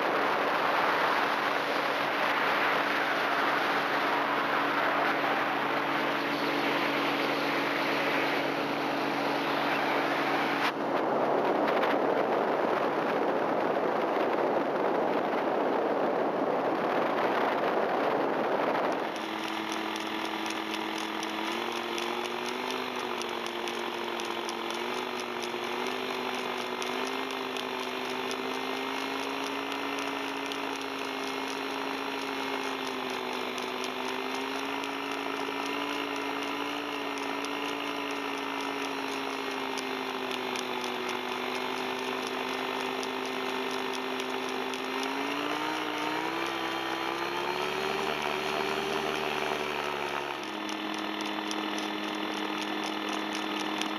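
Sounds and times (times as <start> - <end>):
paramotor engine and propeller: 0.0 - 53.9.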